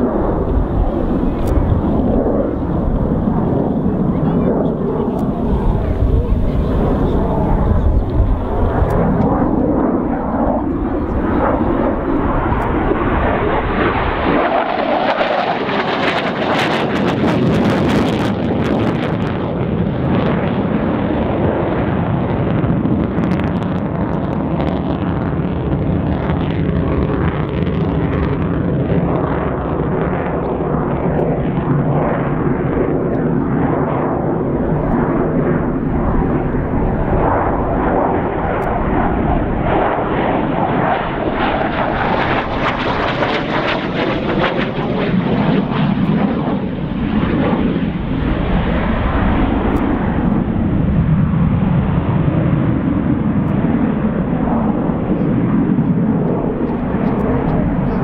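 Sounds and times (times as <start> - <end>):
jet flying overhead: 0.0 - 58.0.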